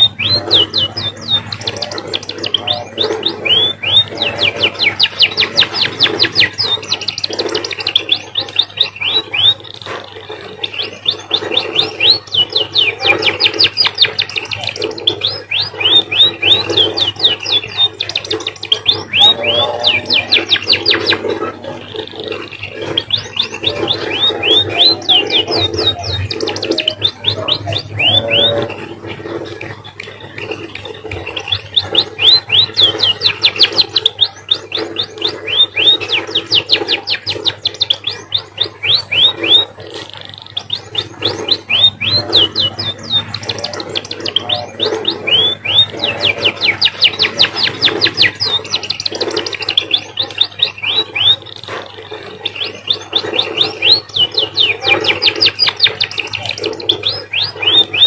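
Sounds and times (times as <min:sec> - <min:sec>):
bird singing long fast trills: 0:00.0 - 0:58.0.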